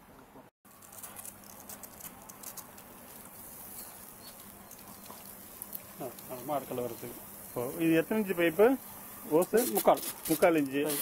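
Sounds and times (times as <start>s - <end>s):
electric pump humming: 2.2s - 11.0s.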